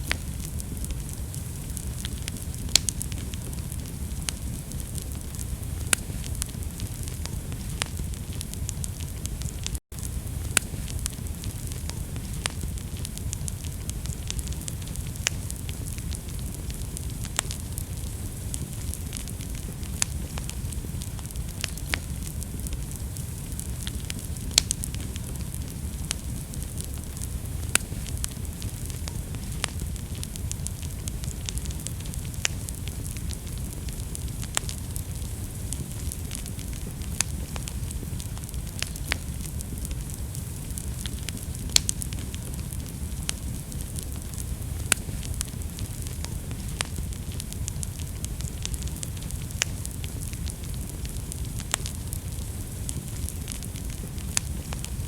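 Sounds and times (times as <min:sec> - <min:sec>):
fire crackles and pops: 0:00.0 - 0:55.0
fire rumble and hiss: 0:00.0 - 0:55.0.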